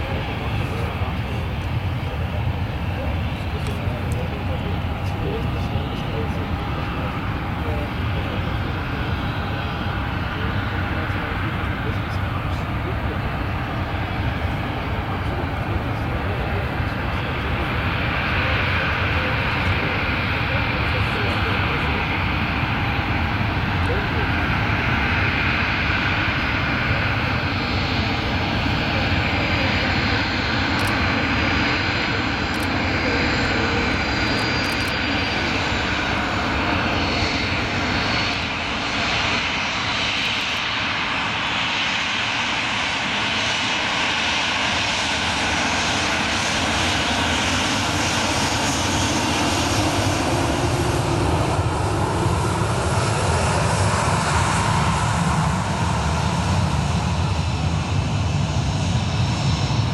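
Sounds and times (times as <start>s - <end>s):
jet engines whining at taxi power: 0.0s - 59.9s.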